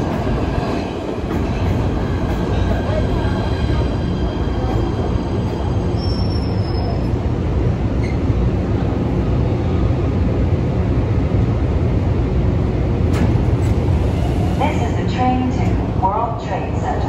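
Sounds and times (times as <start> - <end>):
train rumbling in station: 0.0 - 17.0.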